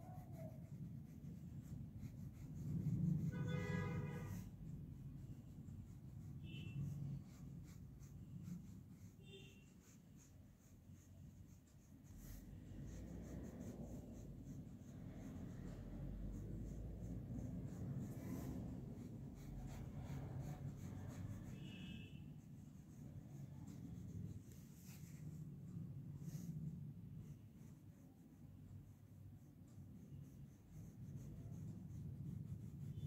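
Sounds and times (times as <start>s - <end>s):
paintbrush brushing on cloth: 0.0s - 33.0s.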